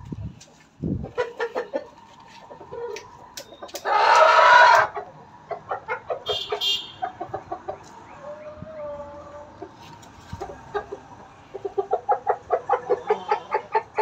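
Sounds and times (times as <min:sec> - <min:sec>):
rooster clucking: 0:01.0 - 0:14.0.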